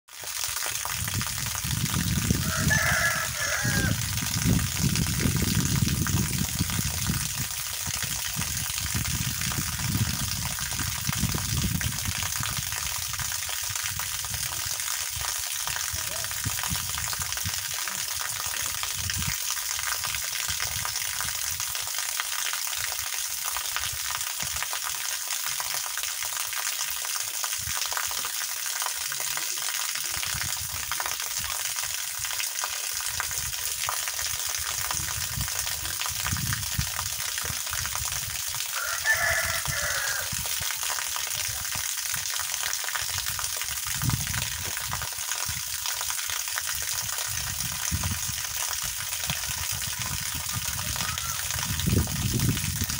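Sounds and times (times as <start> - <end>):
water hose splashing on grass: 0.1 - 52.9.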